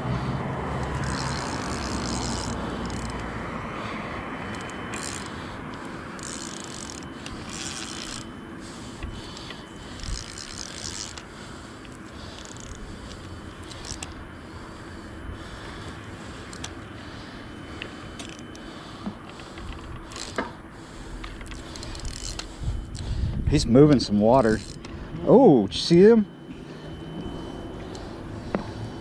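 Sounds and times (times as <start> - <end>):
fishing reel whirring: 0.6 - 25.5.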